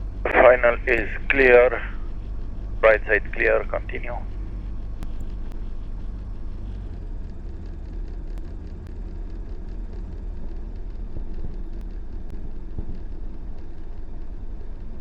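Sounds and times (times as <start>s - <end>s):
light aircraft engine drone: 0.0s - 15.0s.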